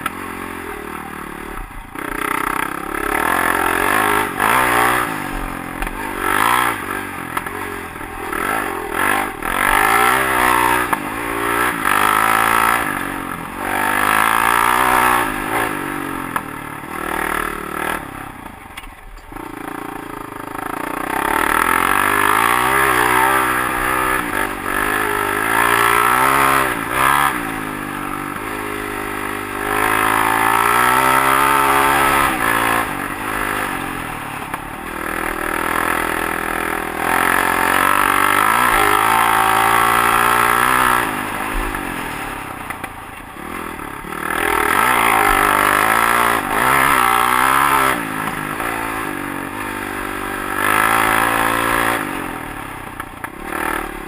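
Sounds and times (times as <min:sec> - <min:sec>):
dirt bike engine revving: 0:00.0 - 0:18.6, 0:19.3 - 0:54.0.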